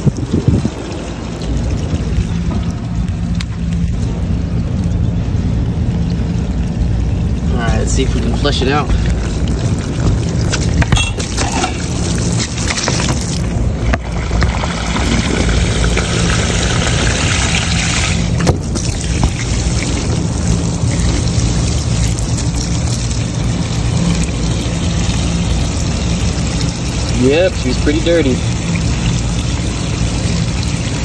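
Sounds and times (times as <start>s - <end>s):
low machine hum: 0.0s - 31.0s
water running through drain line: 0.0s - 31.0s.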